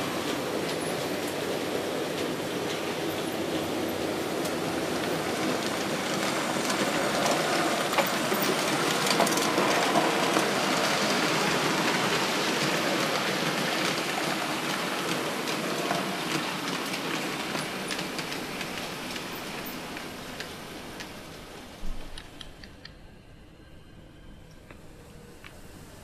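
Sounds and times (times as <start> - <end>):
clicks of train wheels: 0.0 - 23.1, 24.4 - 26.0
model train rolling on track: 0.0 - 26.0.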